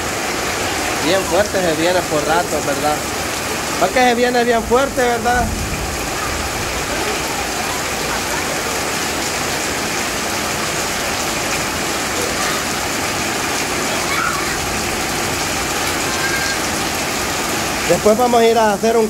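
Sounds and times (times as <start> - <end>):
heavy rain on concrete: 0.0 - 19.0.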